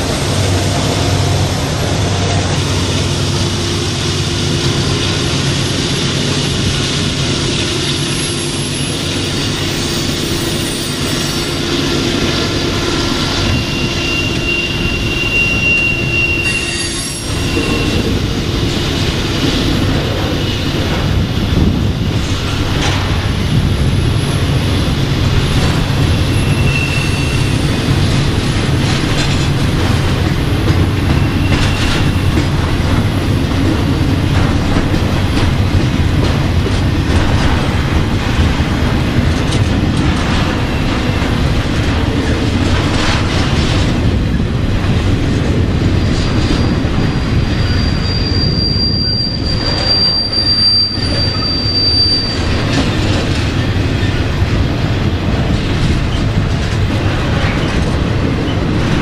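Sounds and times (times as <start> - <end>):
freight train rumbling past: 0.0 - 59.0
train wheel squeal: 3.7 - 43.9, 45.6 - 54.5.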